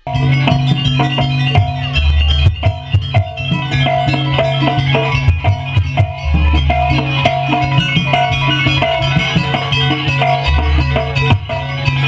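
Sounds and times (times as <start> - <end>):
drum strikes in quick rhythm: 0.0 - 12.0
low steady bass: 0.0 - 12.0
repeating melody: 0.0 - 12.0.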